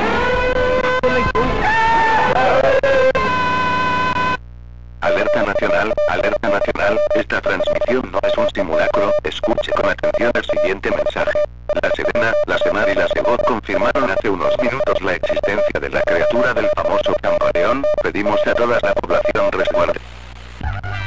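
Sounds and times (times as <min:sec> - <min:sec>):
steady droning tone: 0:00.0 - 0:01.7, 0:02.3 - 0:20.6
distorted emergency alert tone: 0:00.0 - 0:04.4, 0:05.0 - 0:20.0.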